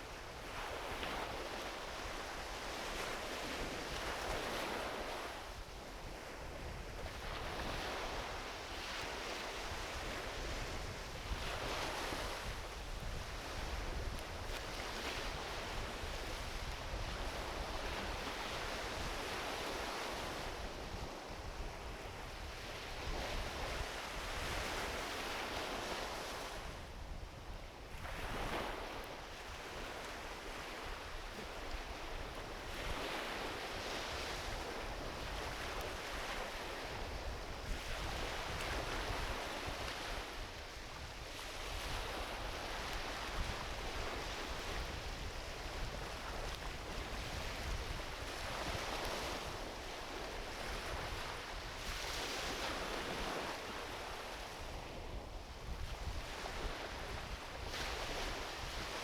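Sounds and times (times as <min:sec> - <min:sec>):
small waves washing onto beach: 0:00.0 - 0:59.0
wind rumble on microphone: 0:00.0 - 0:59.0.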